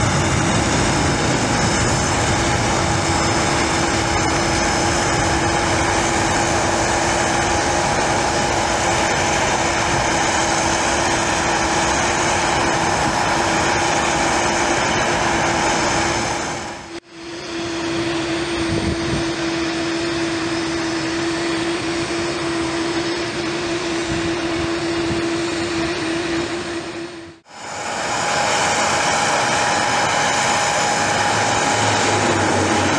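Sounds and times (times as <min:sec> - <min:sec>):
ground equipment humming: 0:00.0 - 0:32.9
jet engines running: 0:00.0 - 0:32.9.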